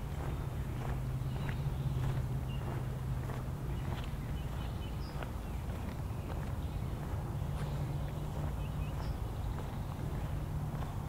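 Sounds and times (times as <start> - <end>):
steady low hum: 0.0 - 11.0
walking footsteps: 0.0 - 11.0.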